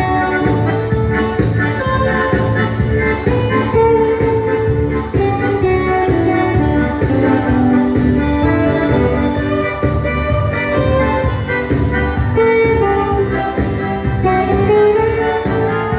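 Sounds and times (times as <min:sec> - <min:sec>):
live dance-band music: 0:00.0 - 0:15.9.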